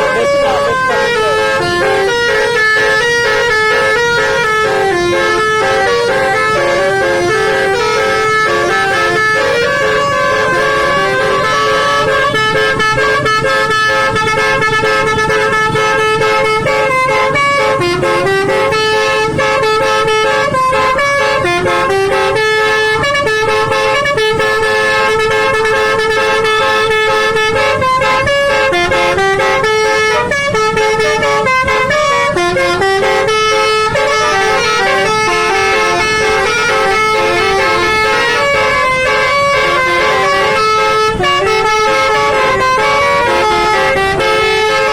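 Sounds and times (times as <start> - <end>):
bus air horn playing a melody: 0.0 - 44.9.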